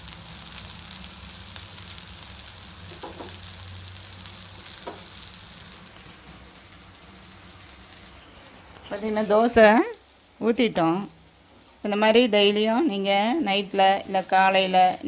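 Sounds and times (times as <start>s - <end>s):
batter sizzling on griddle: 0.0s - 15.0s.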